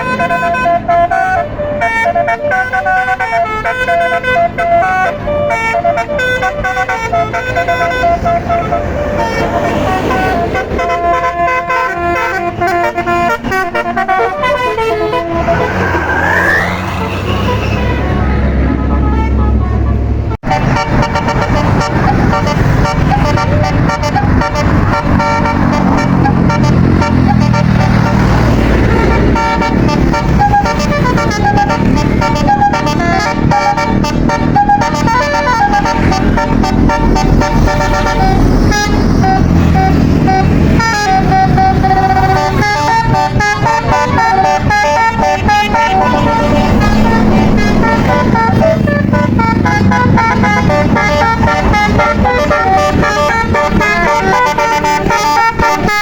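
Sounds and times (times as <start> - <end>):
bus engines running: 0.0 - 56.0
bus horns playing melodies: 0.0 - 56.0.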